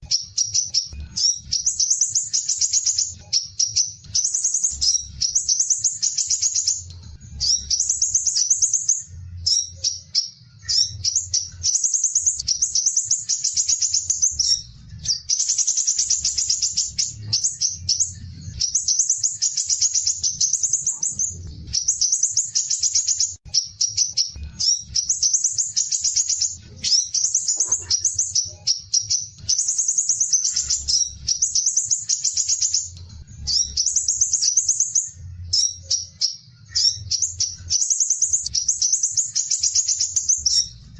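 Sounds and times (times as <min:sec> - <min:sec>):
bird singing high trills: 0:00.0 - 0:40.9.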